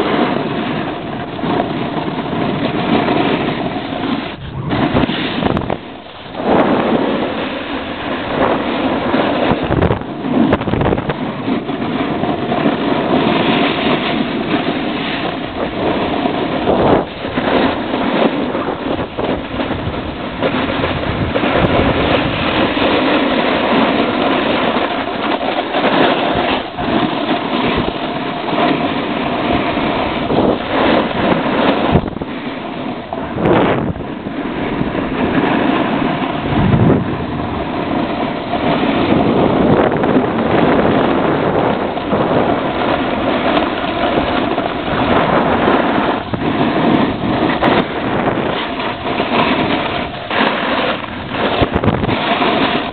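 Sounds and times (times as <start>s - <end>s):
snowboard scraping on snow: 0.0s - 52.9s
wind rushing over microphone: 0.0s - 52.9s.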